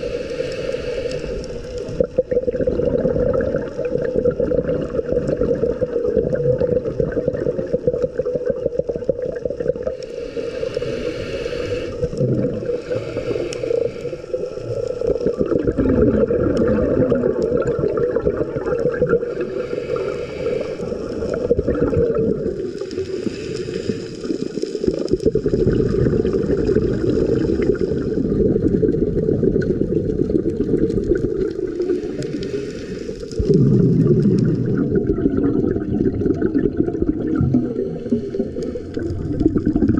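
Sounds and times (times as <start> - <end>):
diver exhaling bubbles: 0.0 - 39.9.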